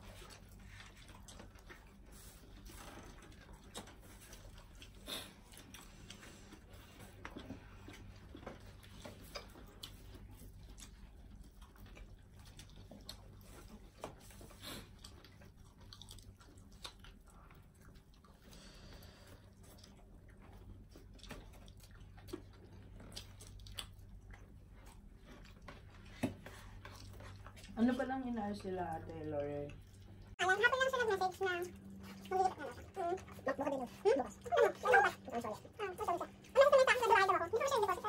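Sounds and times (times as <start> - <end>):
low steady hum: 0.0 - 38.0
people chewing and smacking: 0.0 - 38.0.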